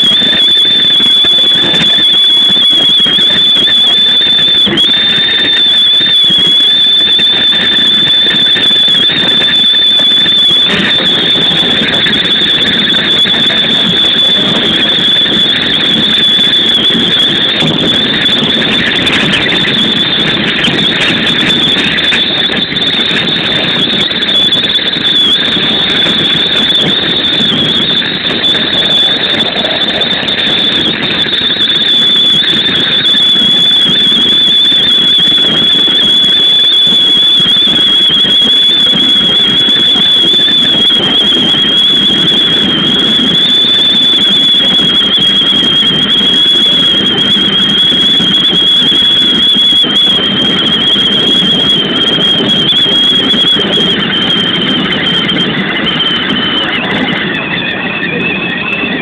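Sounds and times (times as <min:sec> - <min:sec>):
thin high whistle: 0:00.0 - 0:59.0
train running at speed: 0:00.0 - 0:59.0.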